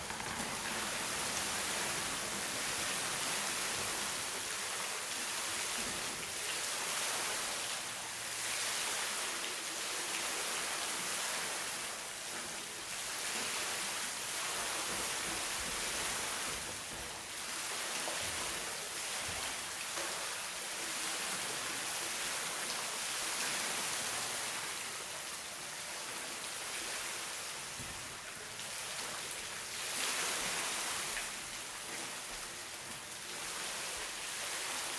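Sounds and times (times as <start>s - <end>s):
water rushing: 0.0s - 12.0s, 17.3s - 34.9s.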